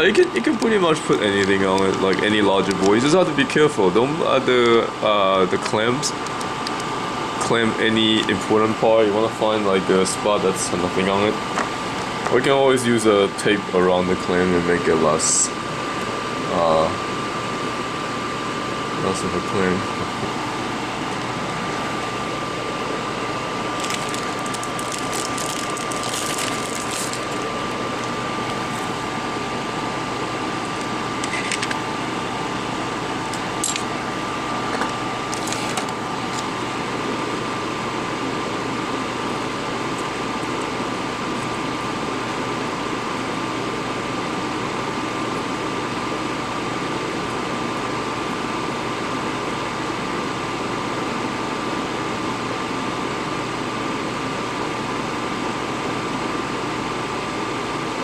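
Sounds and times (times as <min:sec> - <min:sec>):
small electric fan whirring: 0:00.0 - 0:58.0
thin whine: 0:00.0 - 0:58.0.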